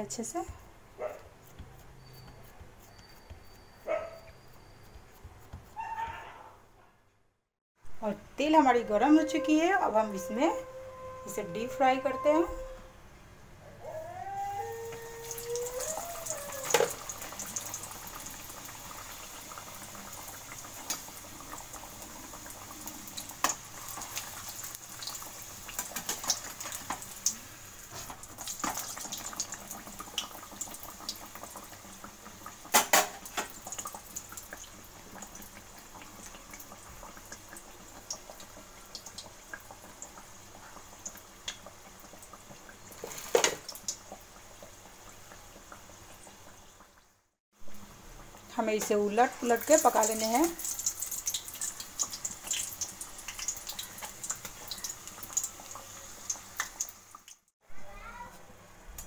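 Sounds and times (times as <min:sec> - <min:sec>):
deep-frying sizzling with pops: 0:00.0 - 0:05.8, 0:14.5 - 0:59.0.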